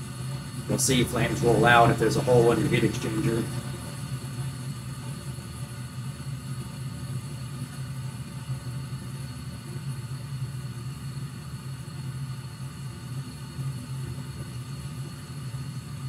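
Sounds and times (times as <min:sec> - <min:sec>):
furnace fan and burner hum: 0:00.0 - 0:16.0.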